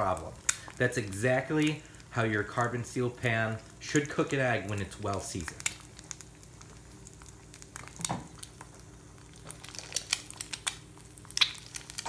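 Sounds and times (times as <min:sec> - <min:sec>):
butter crackling around frying egg: 0:00.0 - 0:12.0.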